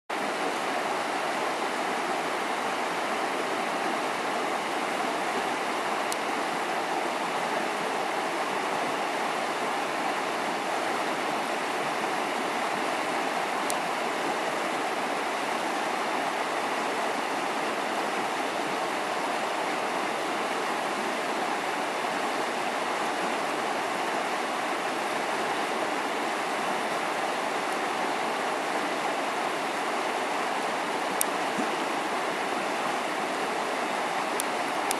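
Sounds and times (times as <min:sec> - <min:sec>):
river water rushing over rocks: 0:00.1 - 0:34.9.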